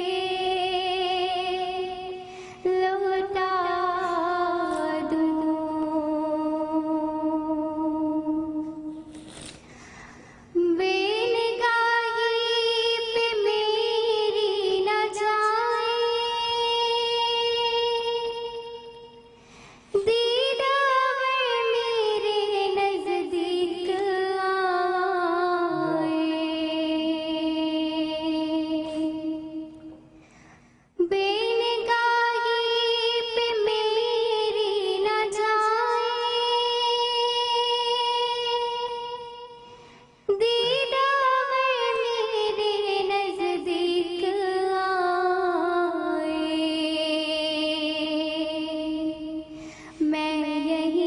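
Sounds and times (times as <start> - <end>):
girl singing devotional song: 0.0 - 51.0.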